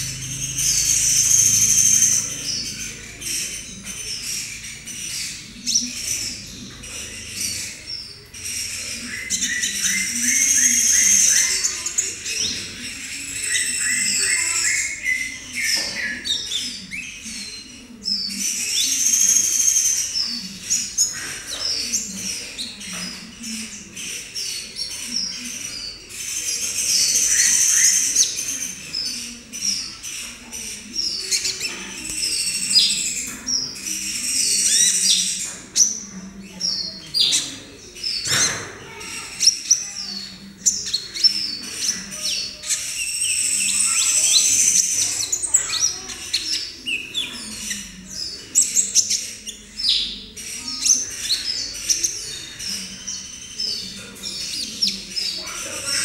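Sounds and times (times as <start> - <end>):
bird twittering chirps and trills: 0.0 - 56.0.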